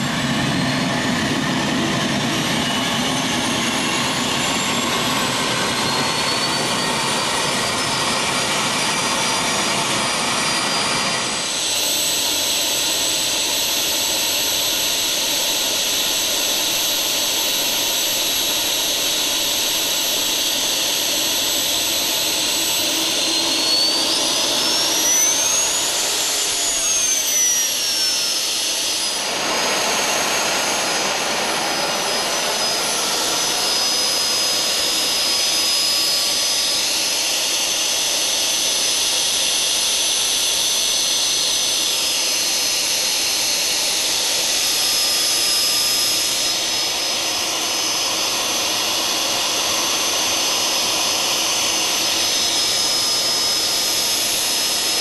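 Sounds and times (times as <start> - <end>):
turbojet engine whining: 0.0 - 55.0.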